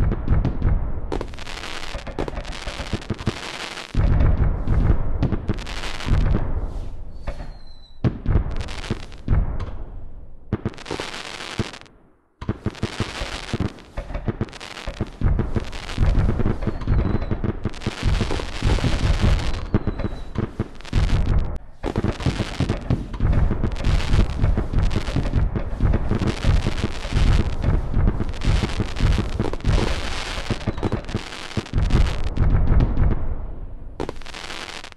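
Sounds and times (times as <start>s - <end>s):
fireworks booming and crackling: 0.0s - 34.9s.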